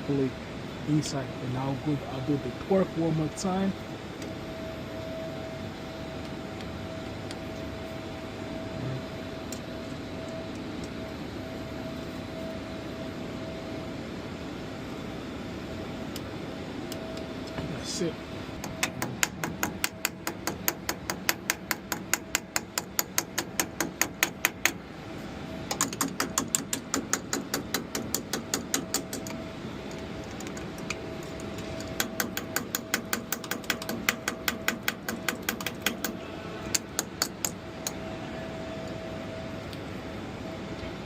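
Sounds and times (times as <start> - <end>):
faint hum: 0.0 - 41.0.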